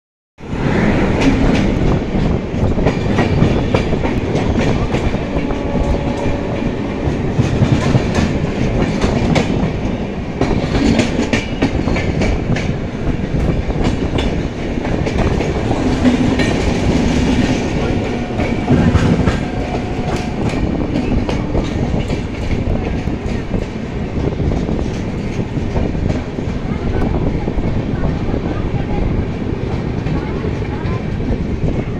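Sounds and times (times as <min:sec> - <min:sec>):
passing train: 0:00.4 - 0:31.9
train wheels rumbling on rails: 0:00.4 - 0:31.9
clickety-clack over rail joints: 0:01.0 - 0:31.9.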